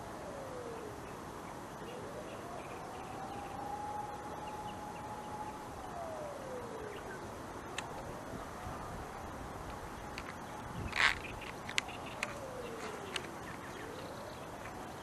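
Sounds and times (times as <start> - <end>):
outdoor background hiss: 0.0 - 15.0
siren wailing: 1.8 - 15.0.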